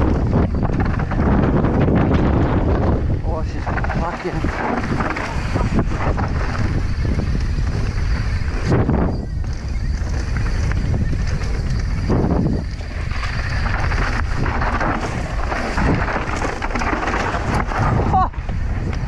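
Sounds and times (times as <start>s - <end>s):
bike tyres rolling on dirt: 0.0s - 19.0s
wind buffeting microphone: 0.0s - 19.0s.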